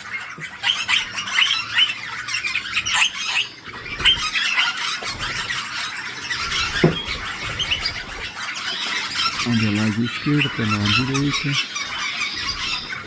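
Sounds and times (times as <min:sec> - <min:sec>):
parakeets chirping and squawking: 0:00.0 - 0:13.0.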